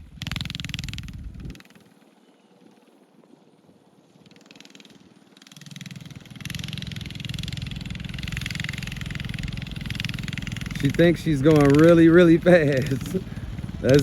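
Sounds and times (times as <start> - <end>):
mini bike engine running: 0.0 - 14.0.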